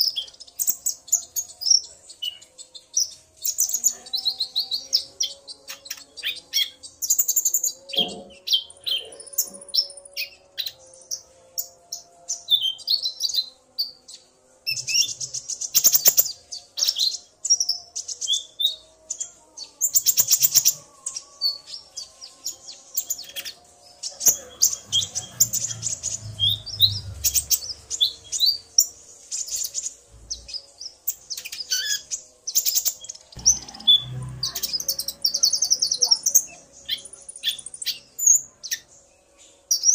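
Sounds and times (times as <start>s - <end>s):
sunbirds chirping and trilling: 0.0s - 39.9s.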